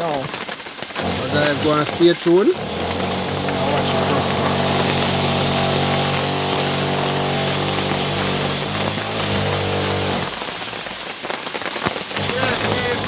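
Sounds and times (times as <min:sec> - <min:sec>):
rain: 0:00.0 - 0:13.0
engine drone: 0:01.0 - 0:11.1, 0:12.2 - 0:13.0.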